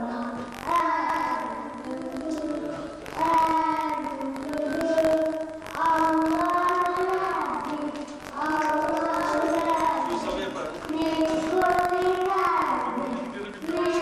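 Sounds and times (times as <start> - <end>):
child singing long notes: 0.0 - 10.2, 10.9 - 14.0.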